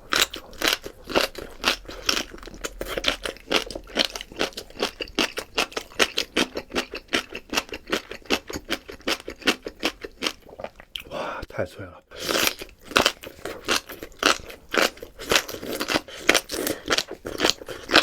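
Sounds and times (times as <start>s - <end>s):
chewing crisp greens: 0.0s - 11.1s, 12.2s - 18.0s.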